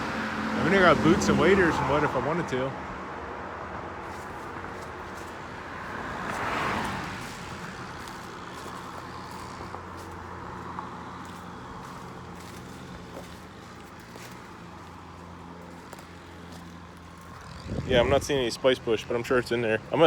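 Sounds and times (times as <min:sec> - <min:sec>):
traffic hum: 0:00.0 - 0:20.0
vehicle passing by: 0:00.0 - 0:20.0.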